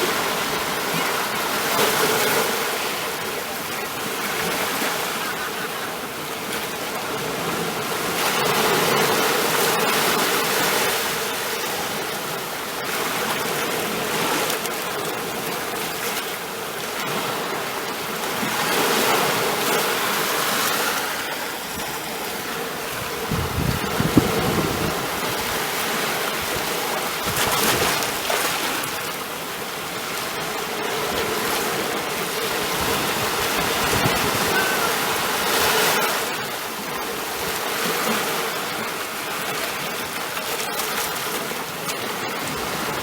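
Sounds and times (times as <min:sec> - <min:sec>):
ocean waves rushing: 0:00.0 - 0:43.0.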